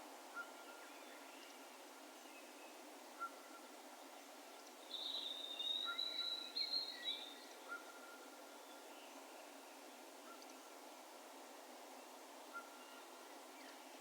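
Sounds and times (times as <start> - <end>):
faint ambient hiss: 0.0 - 14.0.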